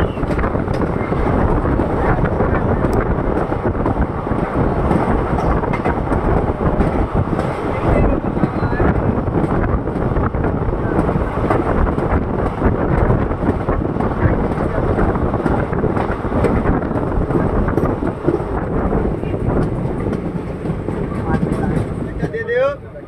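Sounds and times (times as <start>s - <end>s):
wind rushing over microphone: 0.0s - 22.6s
train rumbling on track: 0.0s - 23.0s.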